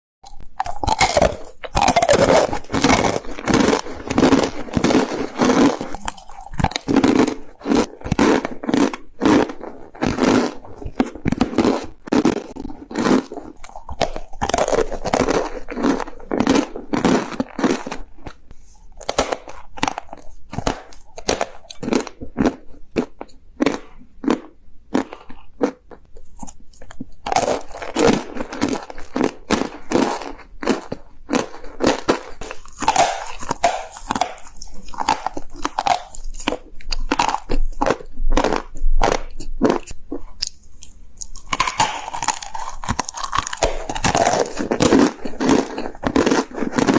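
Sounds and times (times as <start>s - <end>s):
person chewing crunchy food: 0.2s - 46.9s.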